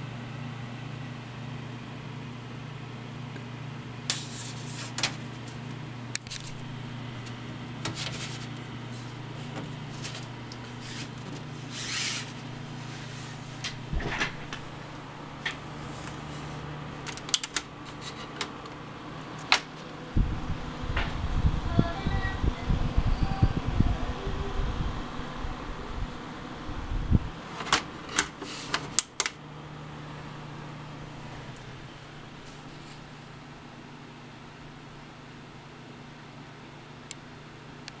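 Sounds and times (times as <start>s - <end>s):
computer fan humming: 0.0s - 38.0s.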